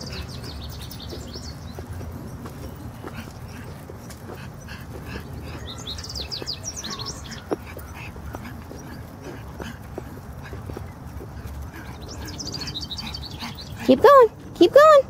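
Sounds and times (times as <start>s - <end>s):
birds chirping: 0.0s - 15.0s
dog wheelchair clicking: 0.0s - 15.0s.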